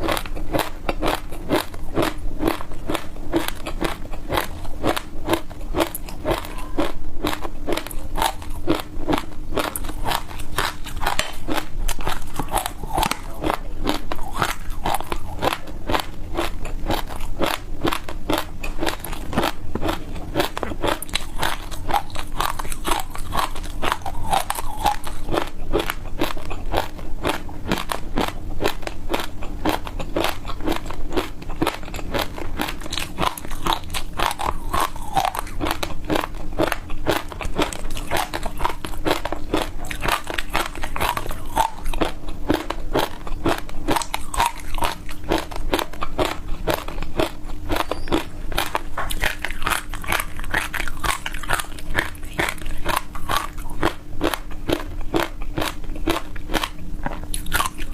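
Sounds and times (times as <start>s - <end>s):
crunching and chewing ice: 0.0s - 57.9s.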